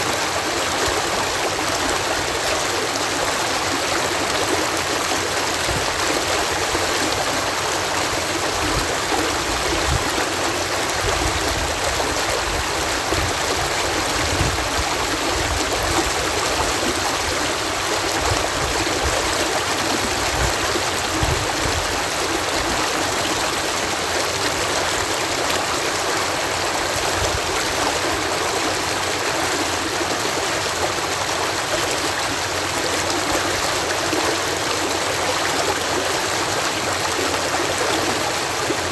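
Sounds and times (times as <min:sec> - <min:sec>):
water rushing over sluice: 0:00.0 - 0:38.9.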